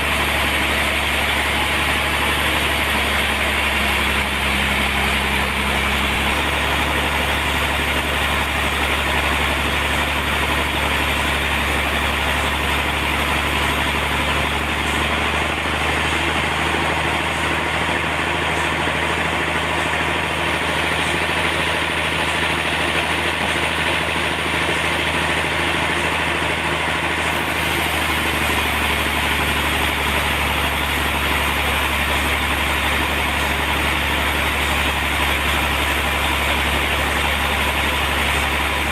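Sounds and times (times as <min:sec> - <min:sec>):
sawmill machinery engine drone: 0:00.0 - 0:38.9.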